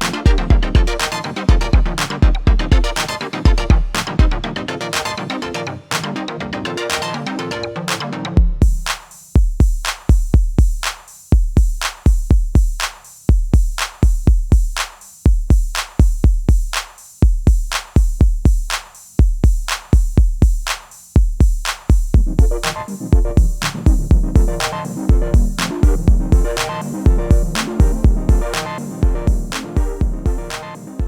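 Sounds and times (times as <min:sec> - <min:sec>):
drum machine beat: 0:00.0 - 0:05.3, 0:07.9 - 0:31.0.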